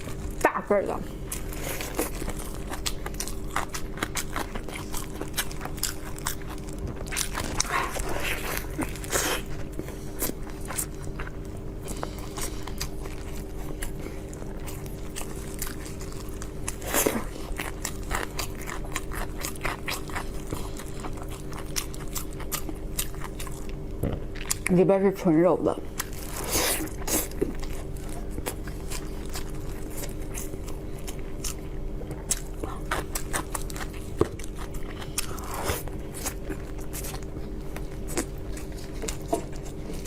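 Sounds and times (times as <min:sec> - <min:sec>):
person chewing food: 0:00.0 - 0:00.4, 0:01.1 - 0:24.7, 0:25.9 - 0:40.0.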